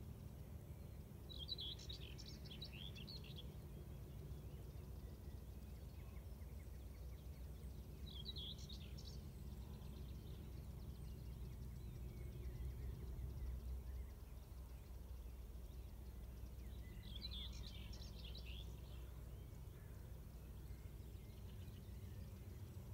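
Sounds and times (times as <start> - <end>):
low background rumble: 0.0 - 22.9
small birds chirping: 0.0 - 22.9.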